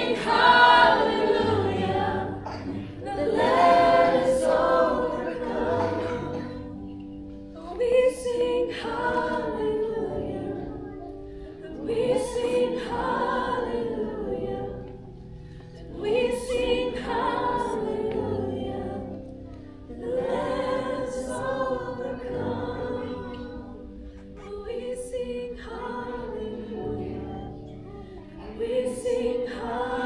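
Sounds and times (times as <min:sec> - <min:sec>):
congregation singing a praise song: 0:00.0 - 0:10.8, 0:11.6 - 0:27.8, 0:28.4 - 0:30.0.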